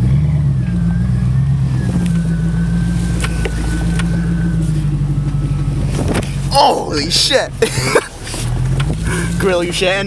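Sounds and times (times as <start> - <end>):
car engine running at low revs: 0.0 - 10.0.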